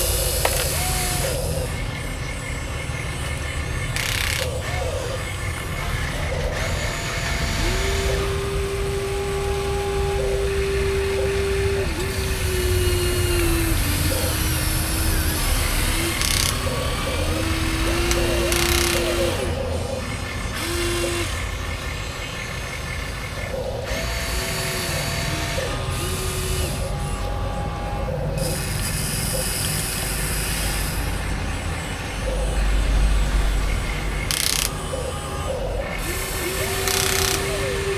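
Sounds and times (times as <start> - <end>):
constant low rumble: 0.0 - 37.9
electric motors whining: 0.0 - 37.9.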